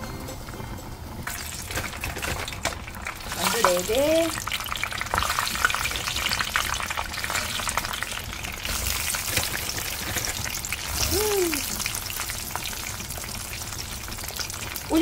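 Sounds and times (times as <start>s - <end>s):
food deep-frying in oil: 0.2s - 15.0s.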